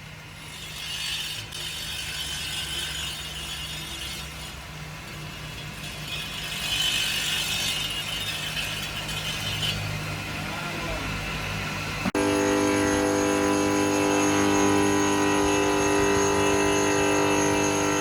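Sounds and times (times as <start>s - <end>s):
stone cutting saw hissing: 0.0s - 18.0s.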